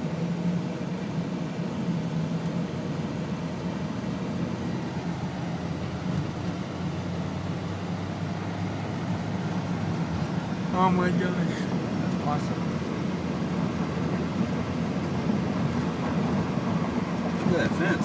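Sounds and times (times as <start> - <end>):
car driving drone: 0.0 - 18.0.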